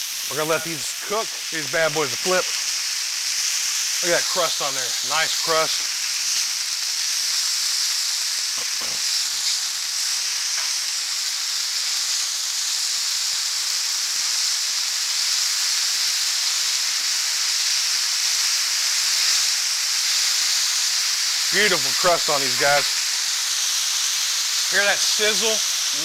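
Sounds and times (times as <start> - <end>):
patties sizzling on a griddle: 0.0 - 26.0.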